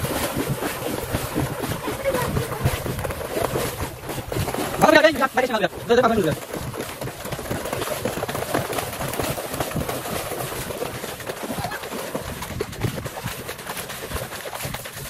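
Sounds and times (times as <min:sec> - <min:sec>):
footsteps splashing through water: 0:00.0 - 0:15.0.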